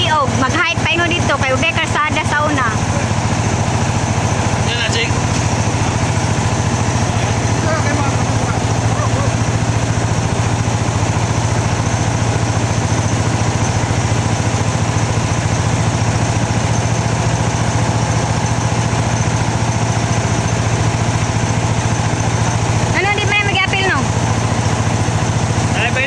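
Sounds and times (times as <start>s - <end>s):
engine and milling machinery: 0.0s - 26.0s.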